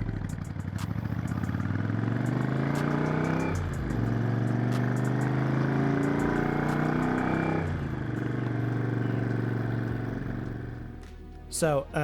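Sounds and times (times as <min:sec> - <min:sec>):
motorcycle engine changing gears: 0:00.0 - 0:10.9.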